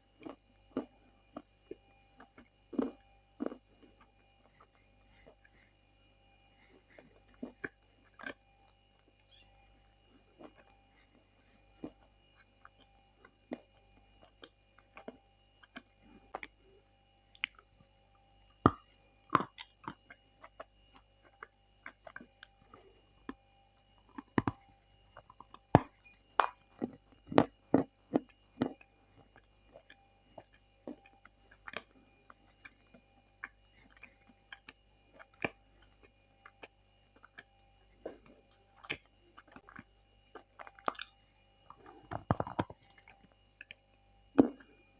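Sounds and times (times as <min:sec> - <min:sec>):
wet chewing clicks and smacks: 0:00.2 - 0:05.7, 0:06.6 - 0:16.7, 0:17.3 - 0:23.4, 0:24.0 - 0:44.7.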